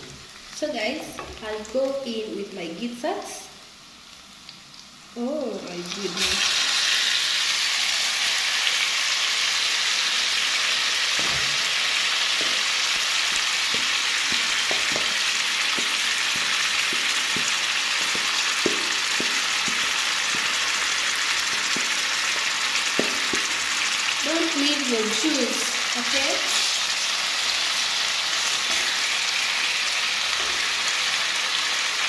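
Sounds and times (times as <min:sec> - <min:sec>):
meat sizzling in a pan: 0:00.0 - 0:32.0.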